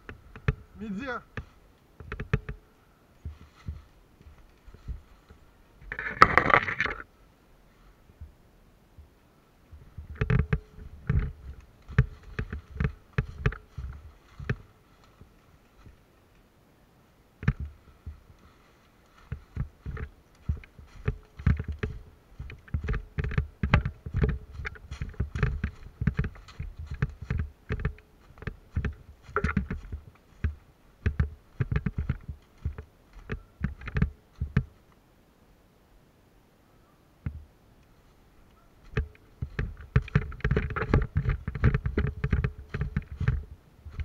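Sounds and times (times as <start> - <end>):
dull thumps and knocks: 0.0 - 2.6, 3.2 - 7.0, 9.7 - 16.0, 17.4 - 34.8, 37.2 - 37.5, 38.8 - 44.0.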